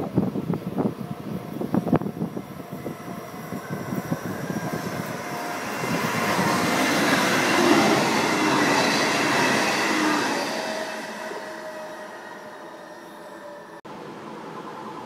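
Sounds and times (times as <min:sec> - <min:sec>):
diesel railcar passing: 0:00.0 - 0:15.0
wheels rushing on rail: 0:00.0 - 0:15.0
whining tones: 0:01.1 - 0:13.8.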